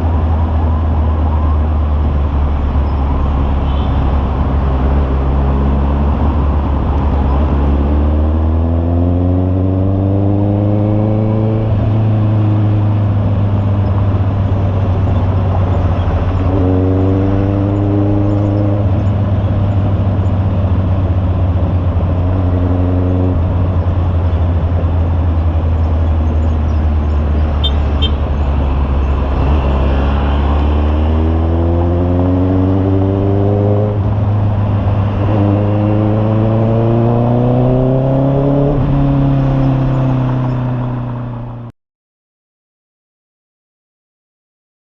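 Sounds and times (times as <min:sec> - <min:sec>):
motorcycle engine accelerating: 0:02.0 - 0:41.7.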